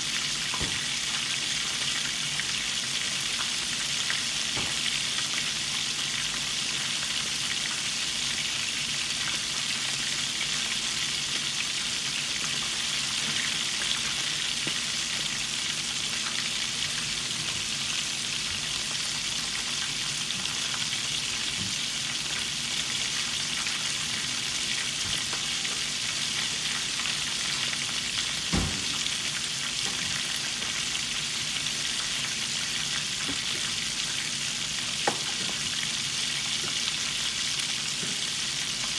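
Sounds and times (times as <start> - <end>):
chicken deep-frying in oil: 0.0 - 38.9.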